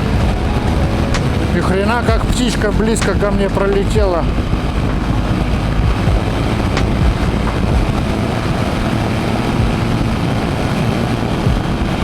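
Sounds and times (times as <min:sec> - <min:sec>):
motorcycle engine running: 0:00.0 - 0:12.0
road noise: 0:00.0 - 0:12.0
wind rush: 0:00.0 - 0:12.0.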